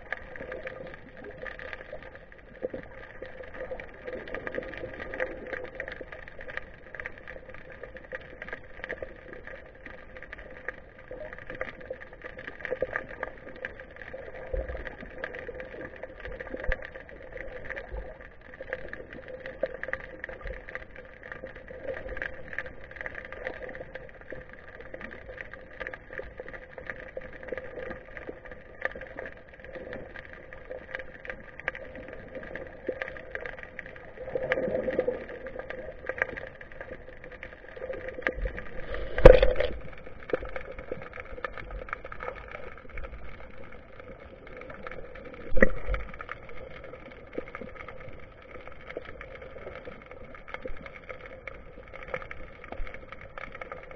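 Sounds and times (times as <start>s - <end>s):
underwater crackling clicks: 0.0s - 53.9s
underwater hum: 0.0s - 53.9s.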